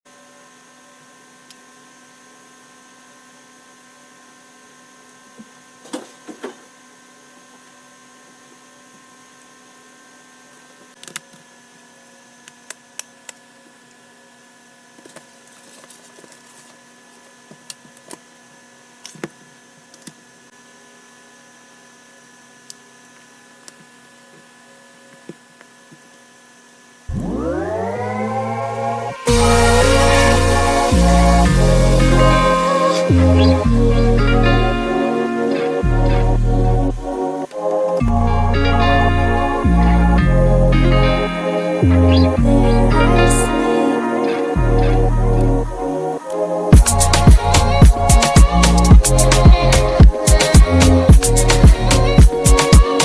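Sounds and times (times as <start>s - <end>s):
steady electrical hum: 0.1s - 53.0s.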